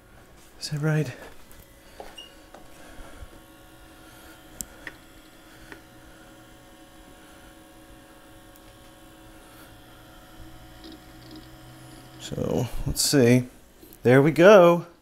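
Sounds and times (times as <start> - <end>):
computer electrical hum: 0.0 - 15.0.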